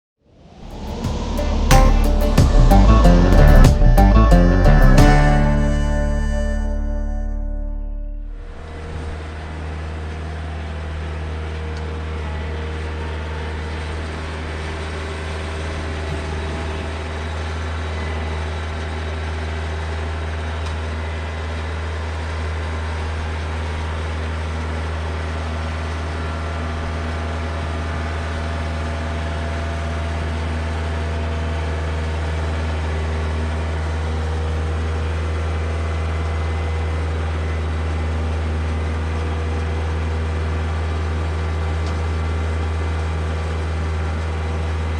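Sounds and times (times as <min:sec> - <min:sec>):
diesel tractor engine running: 0:00.6 - 0:44.9.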